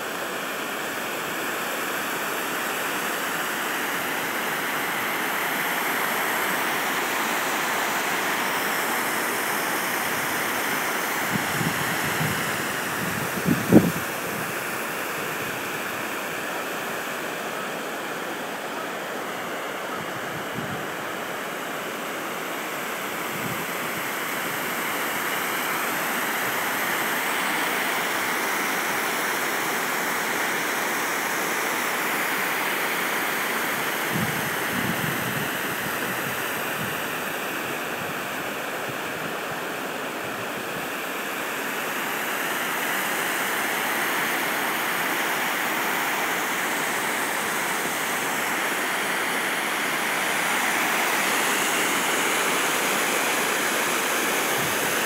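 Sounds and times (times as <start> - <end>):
water rushing over spillway: 0.0 - 55.0.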